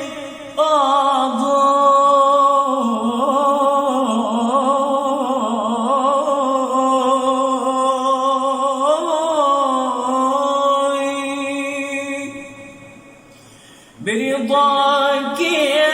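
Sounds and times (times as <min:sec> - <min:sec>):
man singing ornamented melisma: 0:00.0 - 0:13.3, 0:14.0 - 0:15.9.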